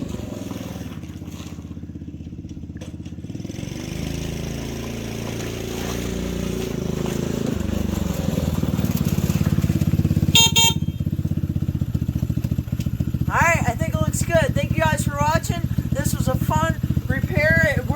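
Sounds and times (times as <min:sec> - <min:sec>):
go-kart engine running: 0:00.0 - 0:17.9.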